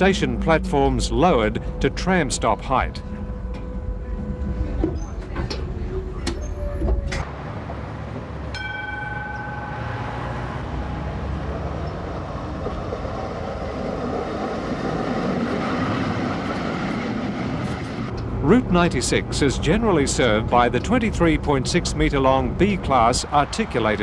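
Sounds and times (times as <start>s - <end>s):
tram rumbling on track: 0.0s - 24.0s.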